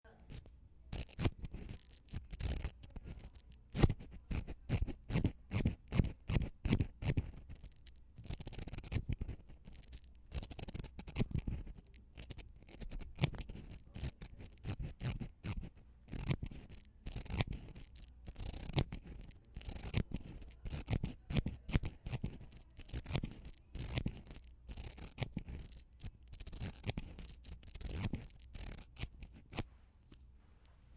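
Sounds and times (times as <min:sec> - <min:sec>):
mascara wand scratchy strokes: 0:00.1 - 0:30.3.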